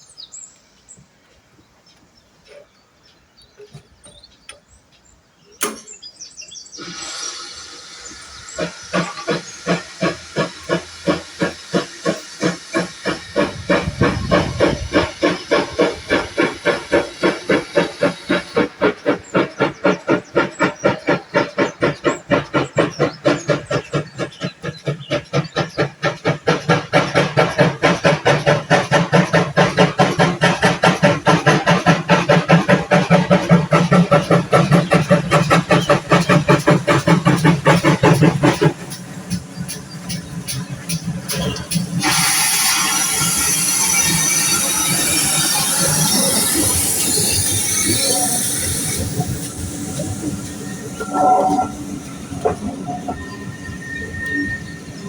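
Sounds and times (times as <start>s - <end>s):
locomotive exhaust chuffs: 2.4s - 55.0s
steam hissing: 6.6s - 55.0s.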